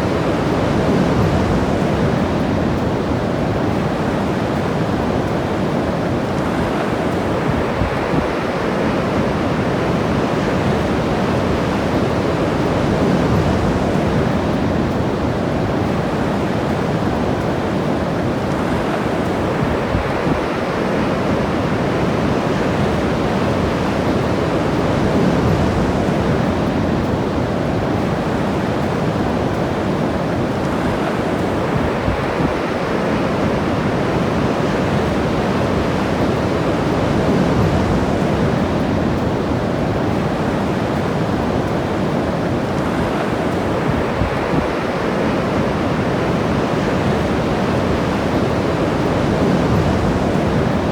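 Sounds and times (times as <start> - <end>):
ocean surf washing onto beach: 0.0 - 50.9.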